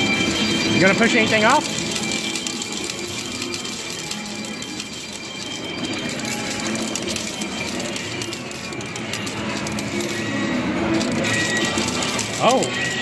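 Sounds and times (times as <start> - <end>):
arcade machines din: 0.0 - 13.0
coins clinking and sliding: 0.0 - 13.0.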